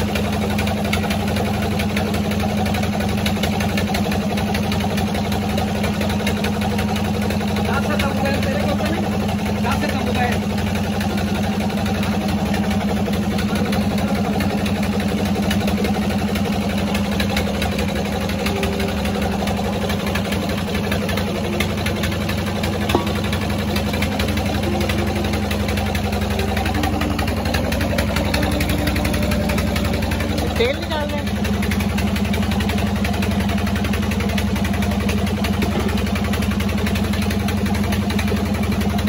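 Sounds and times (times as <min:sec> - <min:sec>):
oil expeller machine humming: 0:00.0 - 0:39.0.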